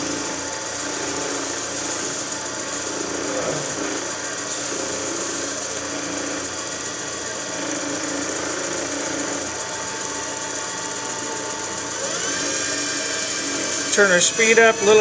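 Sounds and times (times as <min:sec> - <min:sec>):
wood lathe humming: 0:00.0 - 0:15.0.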